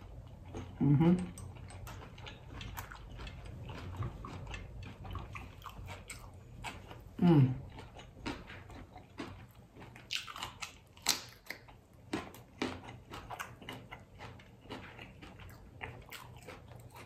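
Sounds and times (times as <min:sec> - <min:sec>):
chewing crunchy taco: 0:00.0 - 0:17.0.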